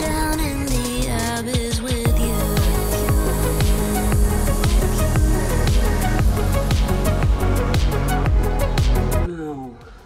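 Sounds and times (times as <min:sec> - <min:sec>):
electronic music with steady beat: 0:00.0 - 0:09.3.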